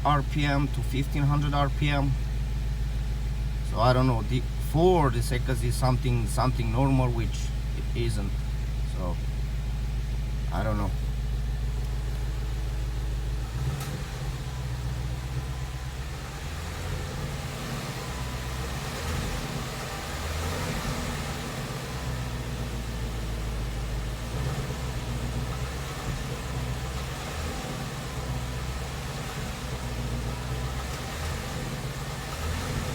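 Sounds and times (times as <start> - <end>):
car engine running at low revs: 0.0 - 32.9
engine knocking and ticking: 0.0 - 32.9.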